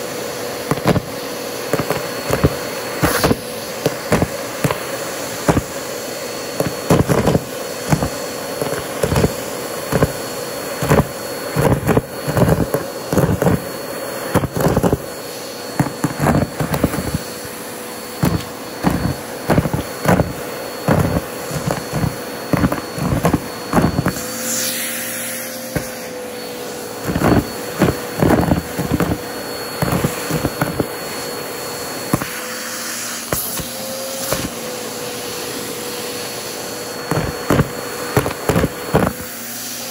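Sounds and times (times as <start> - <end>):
vacuum cleaner motor humming: 0.0 - 39.9.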